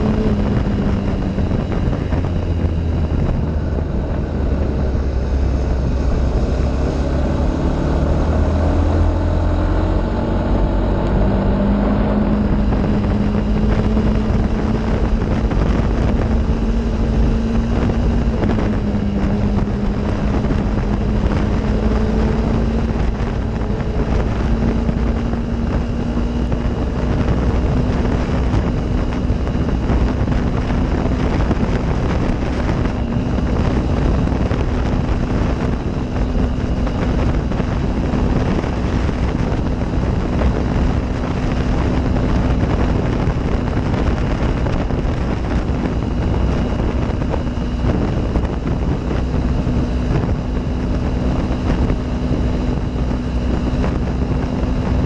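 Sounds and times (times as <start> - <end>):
off-road vehicle engine running: 0.0 - 55.0
wind buffeting microphone: 0.0 - 55.0.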